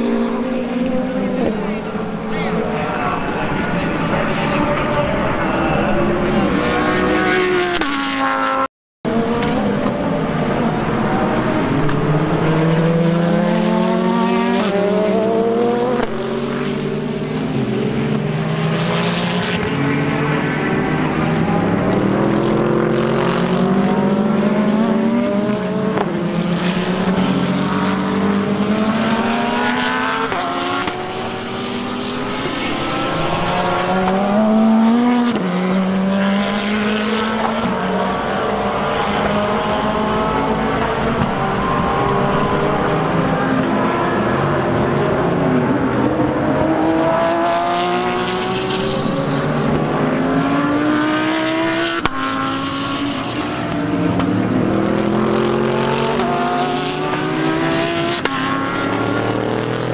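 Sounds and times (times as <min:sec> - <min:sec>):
race car engines: 0:00.0 - 0:59.9.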